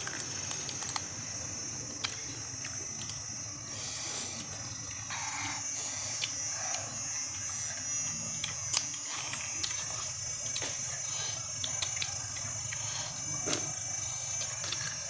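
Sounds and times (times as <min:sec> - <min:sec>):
crunches and clicks of eating crab: 0:00.0 - 0:15.0.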